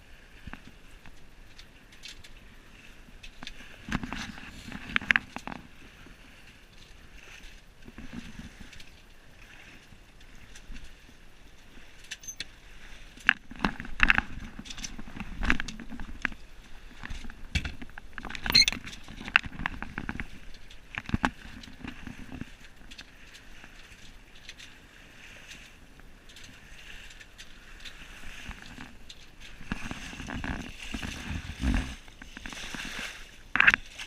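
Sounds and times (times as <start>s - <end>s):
water rushing along a hull: 0.0s - 34.0s.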